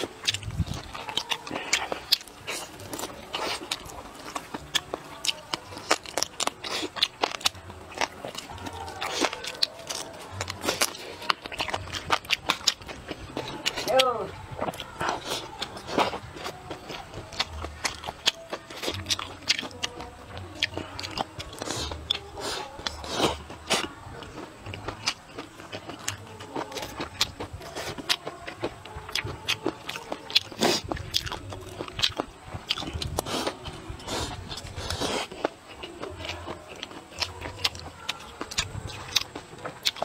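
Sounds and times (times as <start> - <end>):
person chewing food: 0.0 - 40.0.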